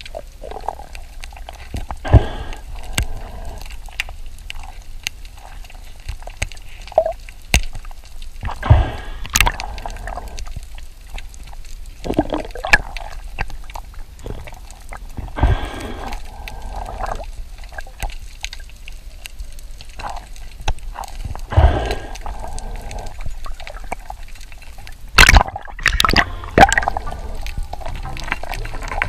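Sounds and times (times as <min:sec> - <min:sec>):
underwater bubbling: 0:00.0 - 0:29.0.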